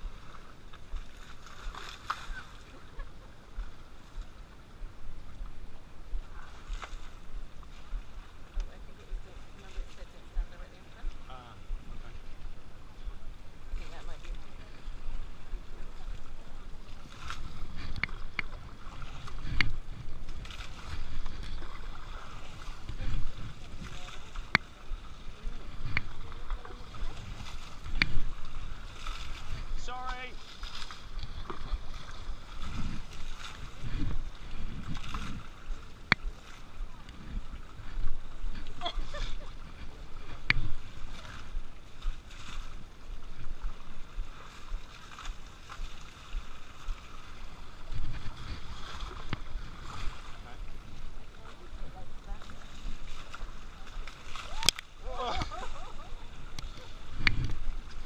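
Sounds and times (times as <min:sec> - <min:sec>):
water splashing and sloshing: 0:00.0 - 0:58.0.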